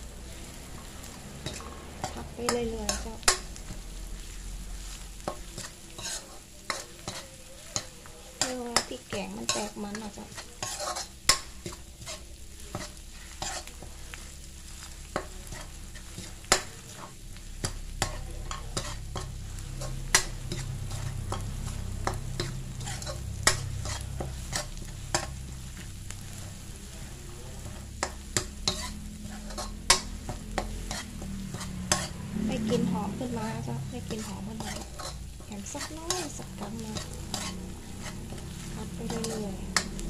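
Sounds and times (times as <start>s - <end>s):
light sizzle: 0.0s - 40.0s
metal spatula scraping a wok: 0.3s - 40.0s.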